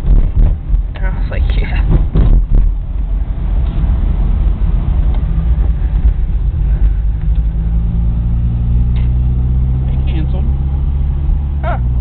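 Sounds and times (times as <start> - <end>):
car engine running: 0.0 - 12.0
road rumble: 0.0 - 12.0.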